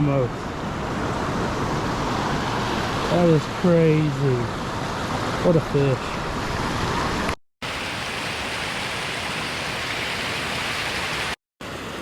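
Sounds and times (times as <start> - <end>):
creek water flowing and splashing: 0.6 - 12.0.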